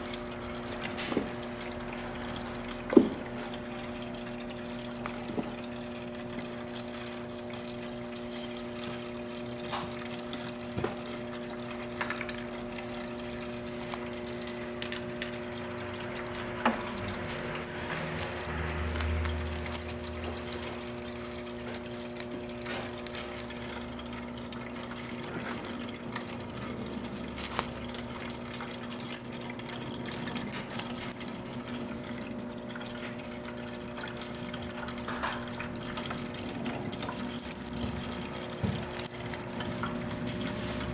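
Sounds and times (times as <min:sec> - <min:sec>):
pump humming: 0:00.0 - 0:40.9
water trickling: 0:00.0 - 0:40.9.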